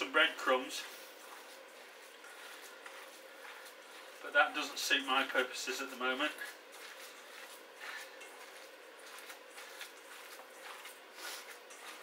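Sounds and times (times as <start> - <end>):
wet squelches of kneaded mince: 0.0 - 12.0.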